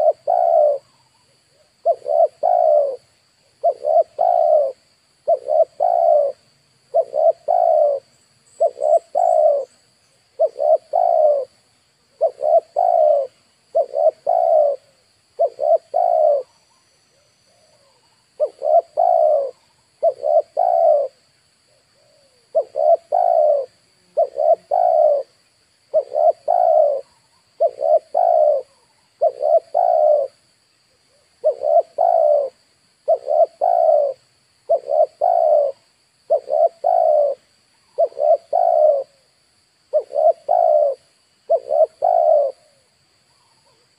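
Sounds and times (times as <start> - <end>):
dove cooing: 0.0 - 30.4, 31.0 - 39.3, 39.9 - 43.9.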